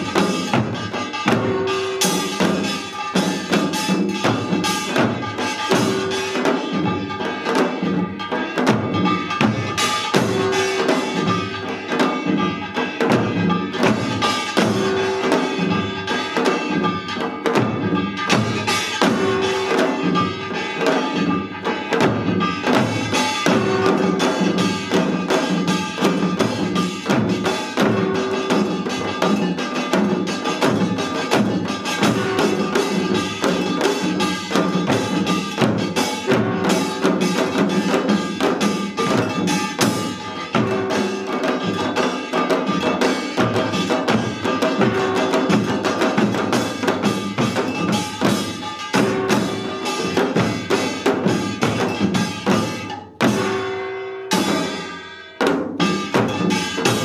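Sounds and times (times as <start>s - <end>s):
drums beating fast rhythm: 0.0s - 57.0s
small gongs clanging: 0.0s - 57.0s.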